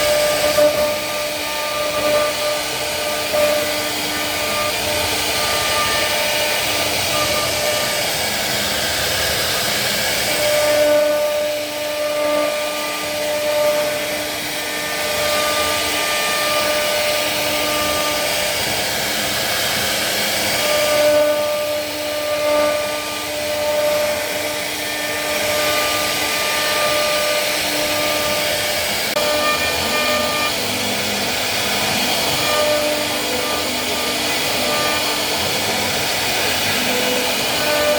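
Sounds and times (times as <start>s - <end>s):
wood router whining while cutting: 0.0s - 37.9s.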